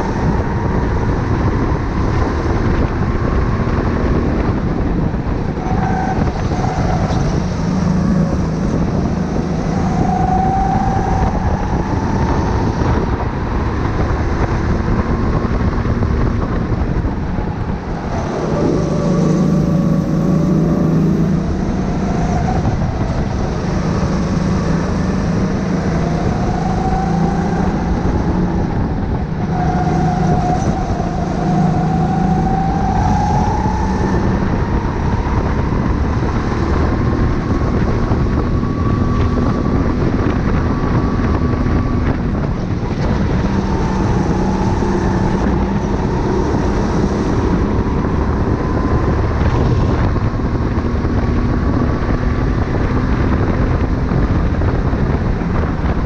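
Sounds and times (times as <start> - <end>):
go-kart engine revving: 10.8 - 56.0.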